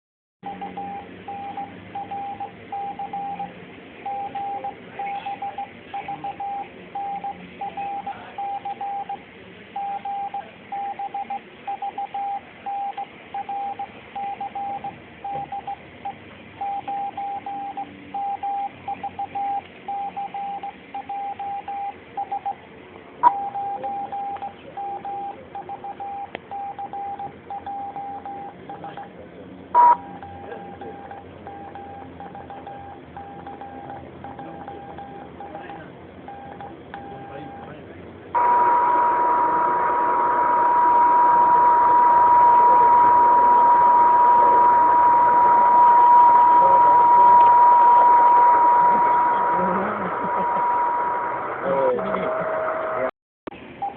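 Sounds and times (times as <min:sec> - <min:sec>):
morse code tone: 0:00.4 - 0:09.2, 0:09.8 - 0:15.8, 0:16.6 - 0:22.6, 0:23.2 - 0:29.1, 0:29.8 - 0:37.7, 0:38.4 - 0:51.4.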